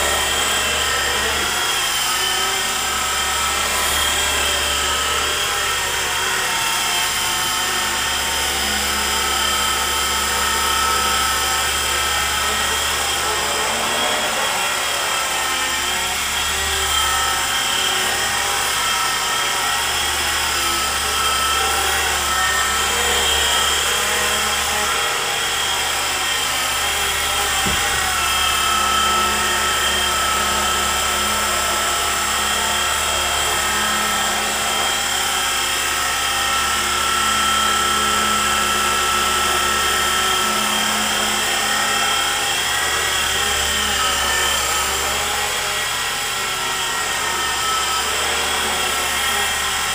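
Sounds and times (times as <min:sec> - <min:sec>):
rc helicopter motor whine: 0:00.0 - 0:49.9.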